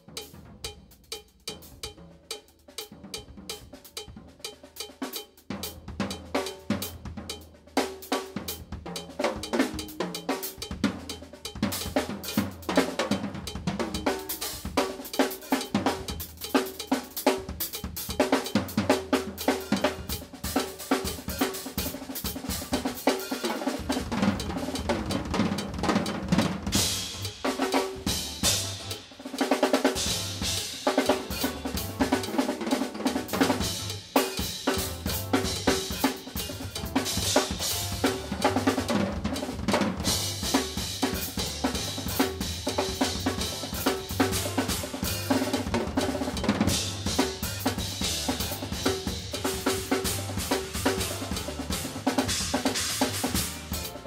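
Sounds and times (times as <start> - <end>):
drum kit groove: 0.0 - 54.0.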